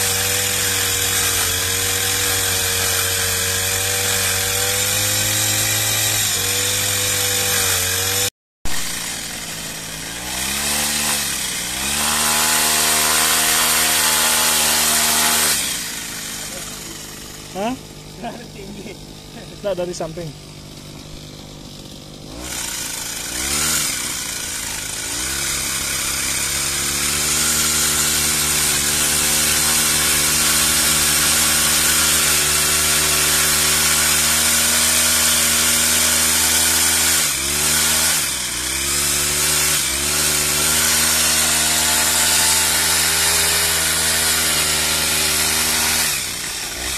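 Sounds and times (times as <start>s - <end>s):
two-stroke pole saw engine revving: 0.0s - 46.9s.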